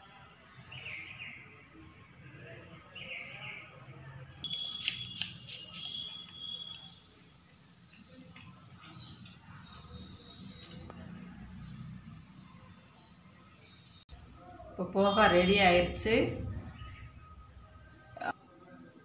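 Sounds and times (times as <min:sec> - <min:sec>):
cricket chirping: 0:00.1 - 0:19.0.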